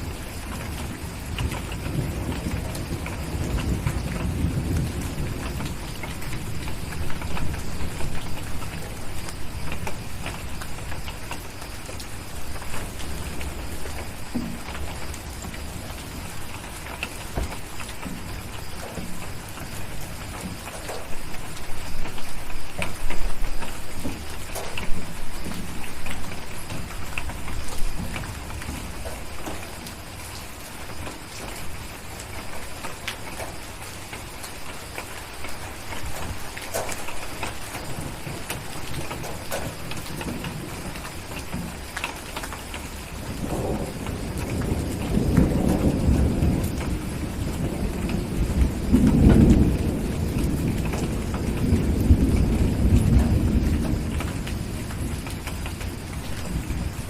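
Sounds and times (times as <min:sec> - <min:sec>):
steady rain: 0:00.0 - 0:57.0
thunder rumble: 0:00.0 - 0:57.0.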